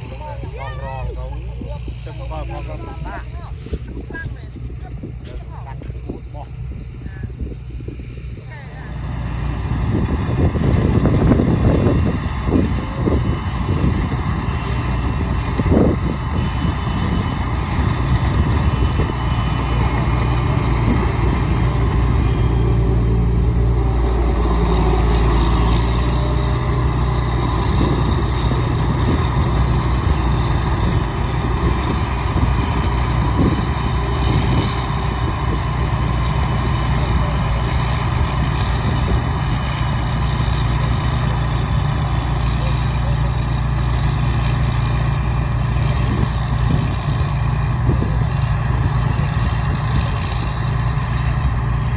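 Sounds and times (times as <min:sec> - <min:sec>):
combine harvester engine running: 0:00.0 - 0:51.9.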